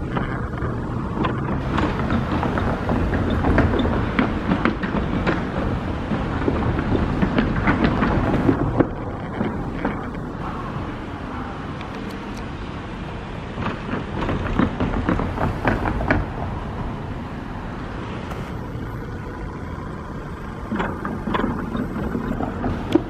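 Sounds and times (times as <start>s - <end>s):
train rumbling past: 0.0s - 23.0s
wheels and car body rattling: 0.0s - 23.0s.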